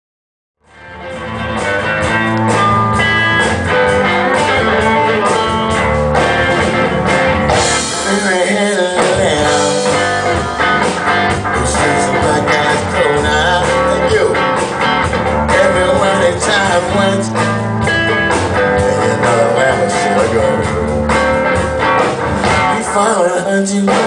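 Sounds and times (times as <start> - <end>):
electric lead guitar with bent notes: 0.6 - 24.0
live blues band playing: 0.6 - 24.0.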